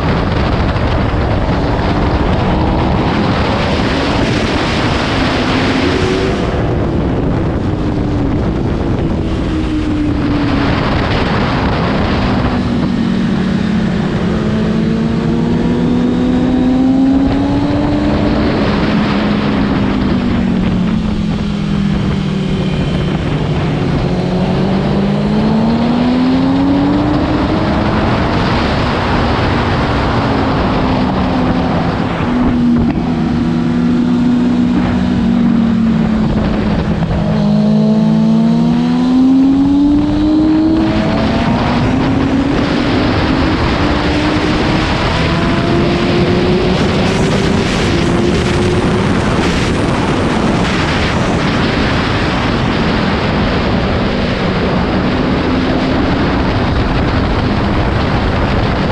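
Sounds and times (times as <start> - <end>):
motorcycle engine accelerating: 0.0 - 58.9
wind noise: 0.0 - 58.9.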